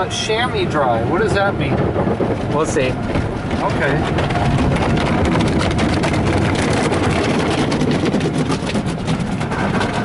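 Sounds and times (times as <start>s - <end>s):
low rumble of car wash: 0.0s - 10.0s.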